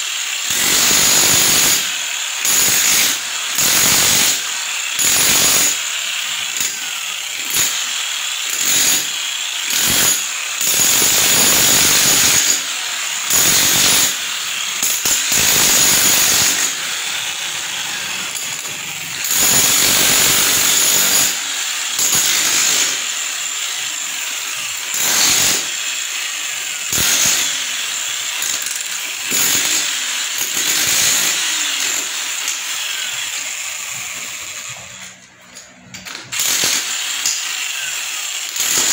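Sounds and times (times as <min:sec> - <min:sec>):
power tool cutting in bursts: 0:00.0 - 0:35.2, 0:36.0 - 0:38.9.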